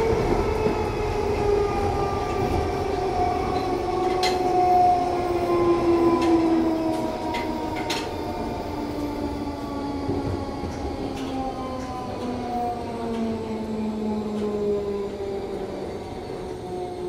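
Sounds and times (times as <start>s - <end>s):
train car equipment humming: 0.0s - 17.0s.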